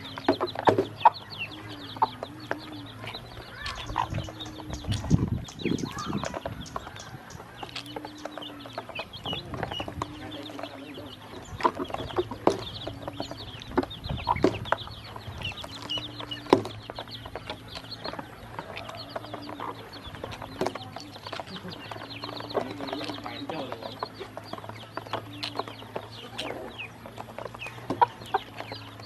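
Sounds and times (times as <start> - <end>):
ducklings peeping: 0.0 - 29.0.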